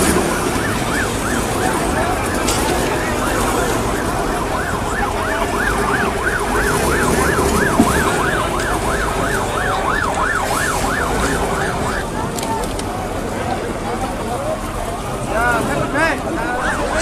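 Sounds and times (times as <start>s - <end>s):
ambulance siren yelping: 0.0s - 13.3s, 14.6s - 17.0s
steady background noise: 0.0s - 17.0s.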